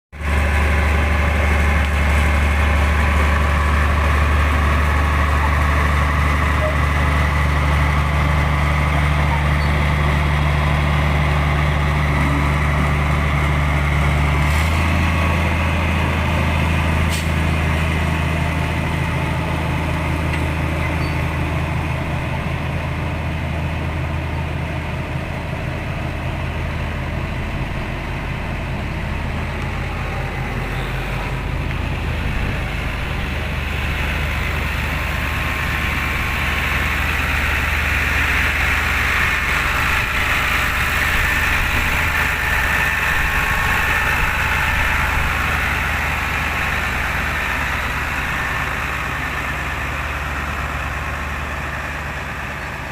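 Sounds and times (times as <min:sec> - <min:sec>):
truck diesel engine running: 0:00.1 - 0:52.9.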